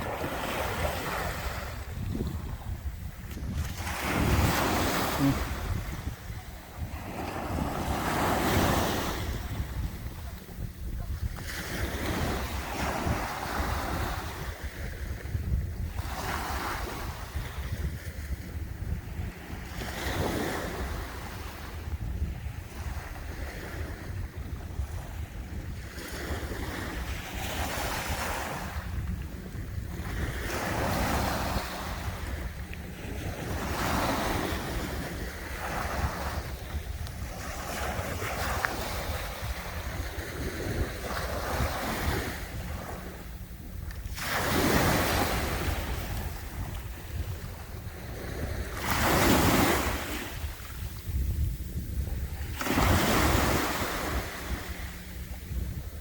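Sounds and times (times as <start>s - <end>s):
sea waves breaking: 0.0s - 56.0s
wind buffeting microphone: 0.0s - 56.0s.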